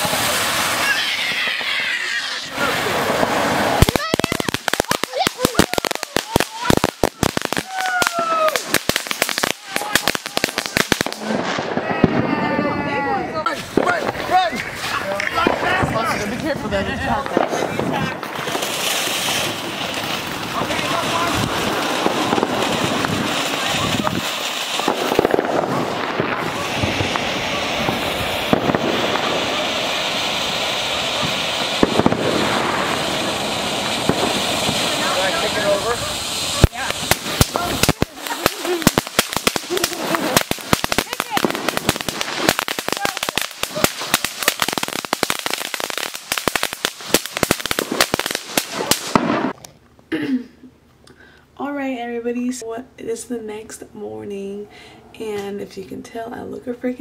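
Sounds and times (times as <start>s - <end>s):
sharp crackling pops: 0.0s - 12.2s, 13.4s - 50.1s
firework fountain hissing: 0.0s - 49.6s.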